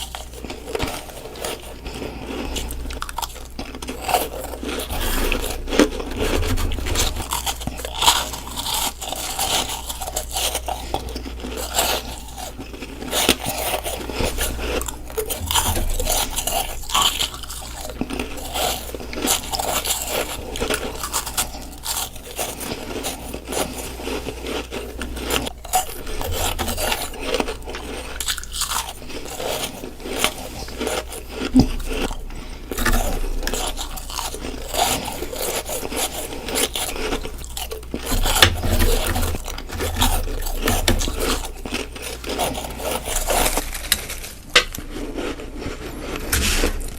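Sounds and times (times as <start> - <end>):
chewing and scraping: 0.0 - 46.9
hard ice crunching: 1.4 - 22.6, 23.4 - 44.3.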